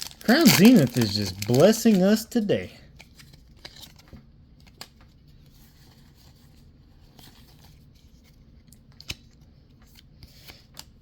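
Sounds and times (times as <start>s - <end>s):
cards and wrappers rustling: 0.0s - 11.0s.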